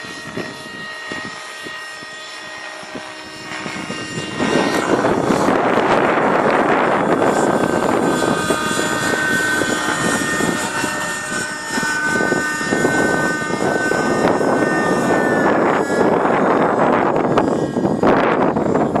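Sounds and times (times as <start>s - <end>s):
helicopter rotor noise: 0.0s - 19.0s
model helicopter engine whining: 0.0s - 19.0s.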